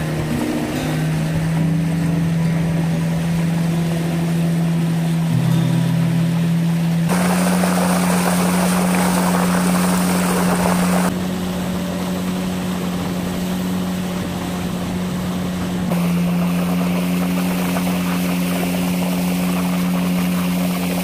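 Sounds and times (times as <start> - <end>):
motorboat engine running: 0.0 - 21.0
water rushing past hull: 0.0 - 21.0.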